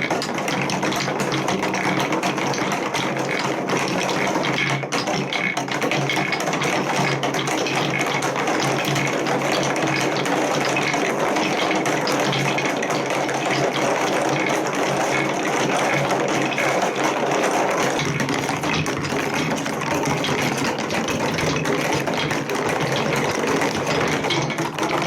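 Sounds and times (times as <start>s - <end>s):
balls rattling down plastic slopes: 0.0s - 25.0s.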